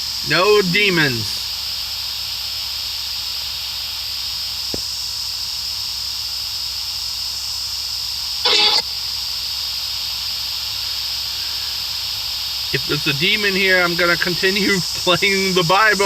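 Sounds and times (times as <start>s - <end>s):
high-pitched hiss: 0.0s - 16.0s.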